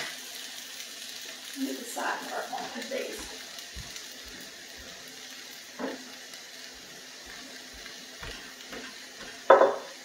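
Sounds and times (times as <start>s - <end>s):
potatoes sizzling in a skillet: 0.0s - 10.0s.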